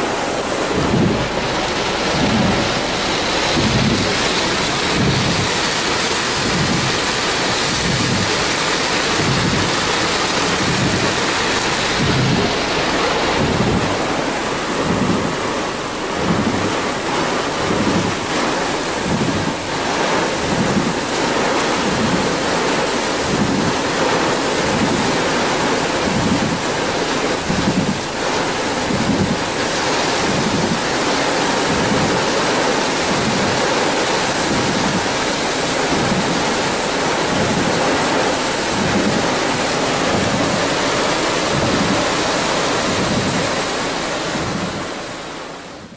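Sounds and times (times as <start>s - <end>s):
heavy rain pouring: 0.0s - 45.9s
low pulsing wind buffets: 0.0s - 45.9s.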